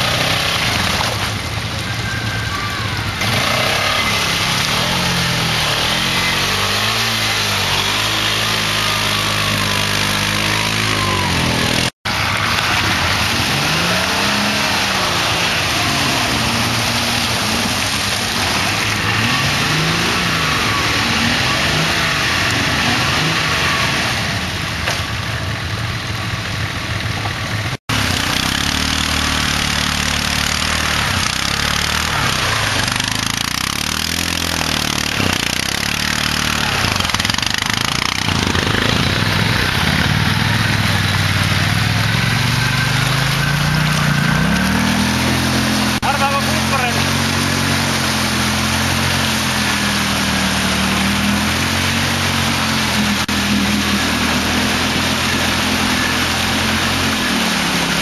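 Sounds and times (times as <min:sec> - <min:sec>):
atv engine revving: 0:00.0 - 0:58.0
off-road vehicle engine revving: 0:00.0 - 0:58.0
wheels churning through mud: 0:00.0 - 0:58.0.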